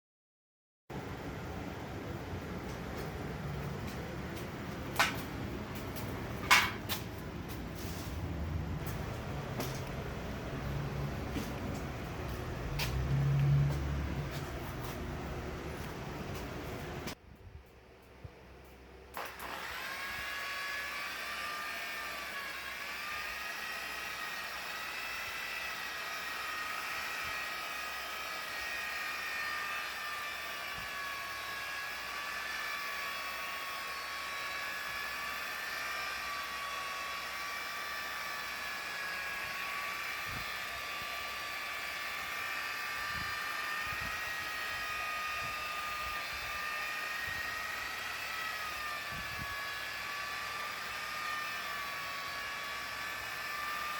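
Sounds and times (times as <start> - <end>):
small electric motor whining: 3.5 - 17.2, 19.1 - 53.9.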